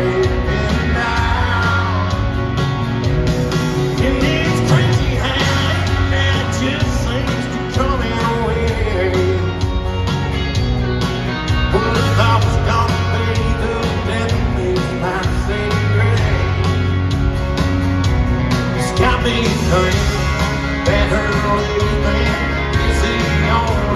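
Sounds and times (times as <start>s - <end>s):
live country band playing: 0.0s - 23.9s.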